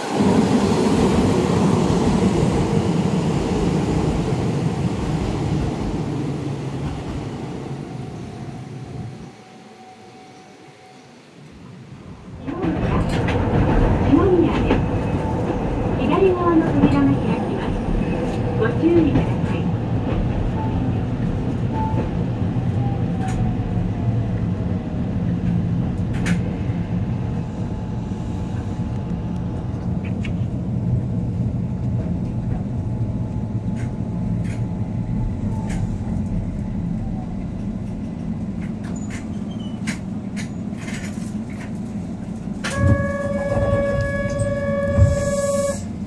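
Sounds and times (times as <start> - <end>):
train rumble: 0.0 - 46.0.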